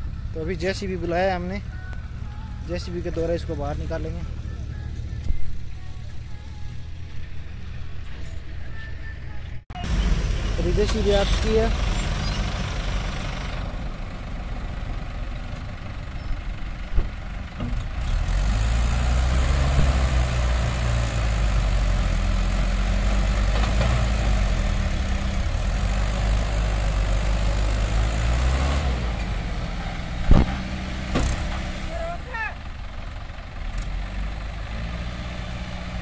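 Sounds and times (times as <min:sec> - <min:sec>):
diesel engines working under load: 0:00.0 - 0:36.0.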